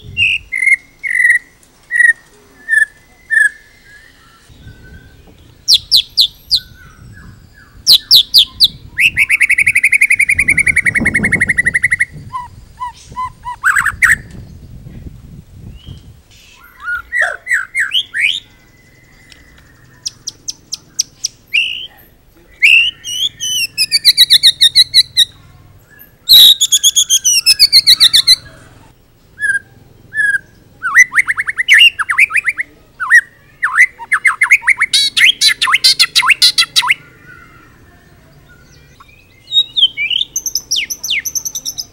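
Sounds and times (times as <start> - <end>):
songbird singing trills: 0.0 - 41.9.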